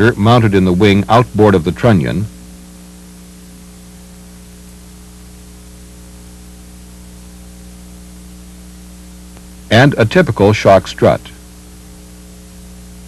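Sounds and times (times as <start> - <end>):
background hiss: 0.0 - 13.0
electrical mains hum: 0.0 - 13.0.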